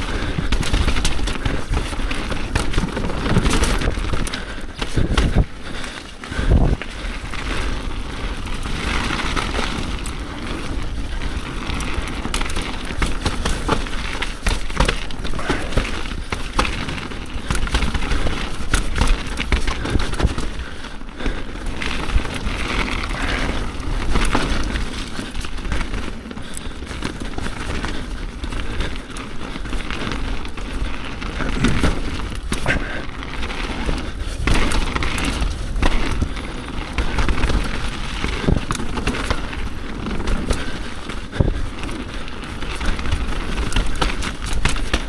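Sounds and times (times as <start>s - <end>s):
bike rattling and clattering: 0.0s - 45.0s
bike tyres rolling over dirt: 0.0s - 45.0s.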